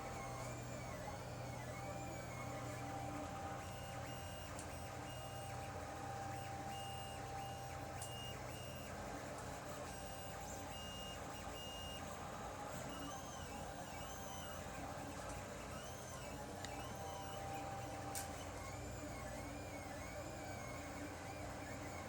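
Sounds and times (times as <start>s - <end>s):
stepper motors whining: 0.0s - 22.0s.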